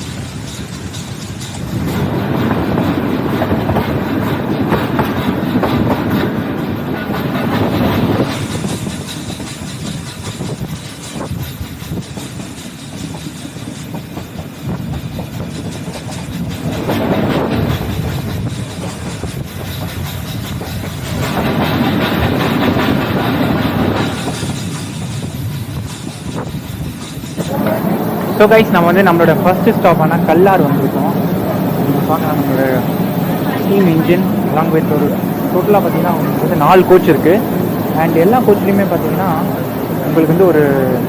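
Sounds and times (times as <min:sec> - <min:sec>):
train wheels clattering on rails: 0:00.0 - 0:41.0.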